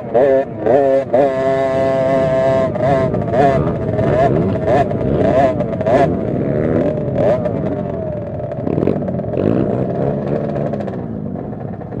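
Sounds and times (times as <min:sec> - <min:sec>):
minibike engines racing: 0:00.0 - 0:12.0.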